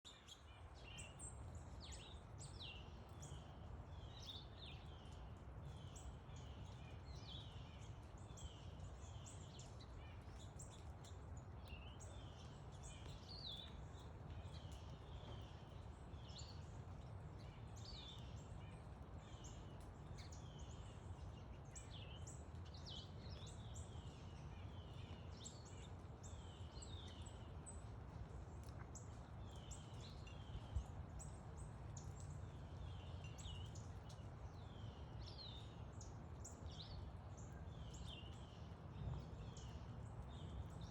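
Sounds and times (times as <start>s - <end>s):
sparrows and finches chirping: 0.1s - 27.9s, 28.6s - 40.9s.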